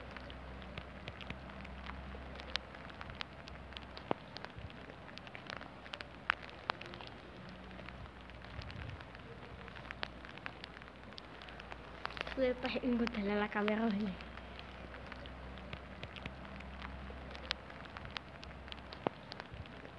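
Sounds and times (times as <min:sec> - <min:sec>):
rain falling: 0:00.0 - 0:19.9.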